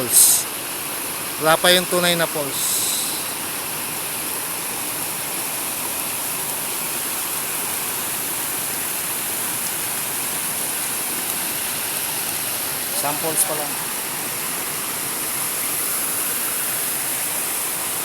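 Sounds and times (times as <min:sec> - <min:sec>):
river water rushing over cascades: 0:00.0 - 0:18.0.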